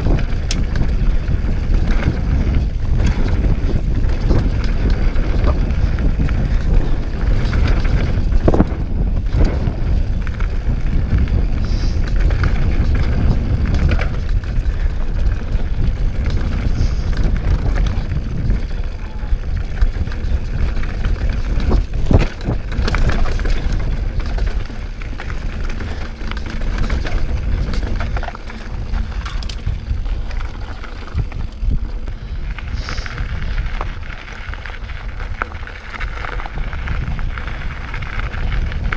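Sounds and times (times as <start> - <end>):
bike rattling: 0.0 - 38.9
tyre noise on dirt and stones: 0.0 - 38.9
wind rushing over microphone: 0.0 - 38.9.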